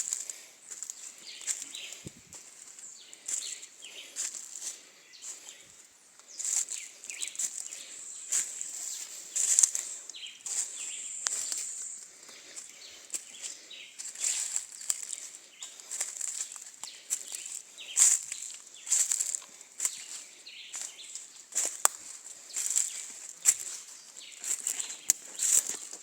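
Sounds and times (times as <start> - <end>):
footsteps through dry leaves: 0.0 - 26.0.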